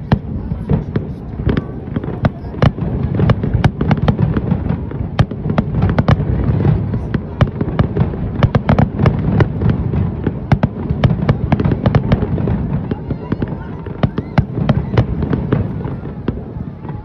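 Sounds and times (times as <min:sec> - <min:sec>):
fireworks cracking and banging: 0:00.0 - 0:17.0
low rumble of booms: 0:00.0 - 0:17.0.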